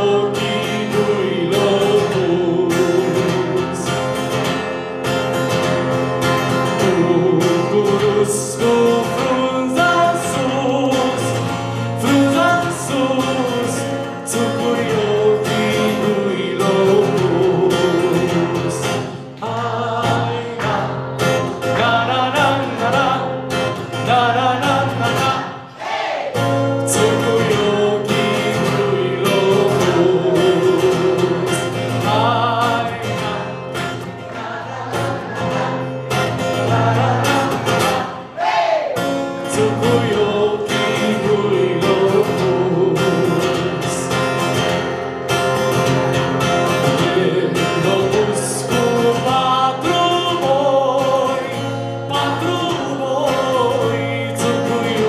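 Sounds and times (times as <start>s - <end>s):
man singing folk song: 0.0s - 25.7s, 26.4s - 38.2s, 39.0s - 55.0s
acoustic guitar: 0.0s - 55.0s.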